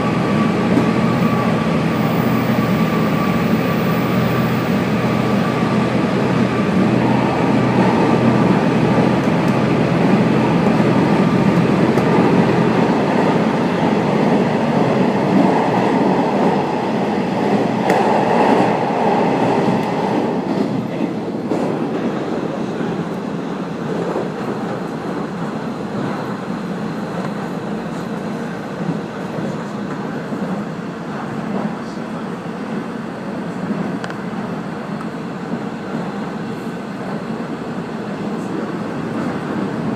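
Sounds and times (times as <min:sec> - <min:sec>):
train running noise: 0:00.0 - 0:39.9.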